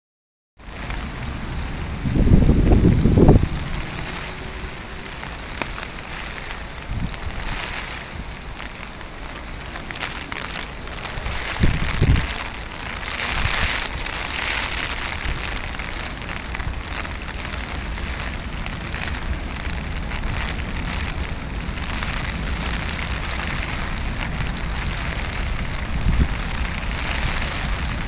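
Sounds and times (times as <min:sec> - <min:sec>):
heavy rain hissing: 0:00.6 - 0:28.0
wind buffeting microphone: 0:00.7 - 0:28.0.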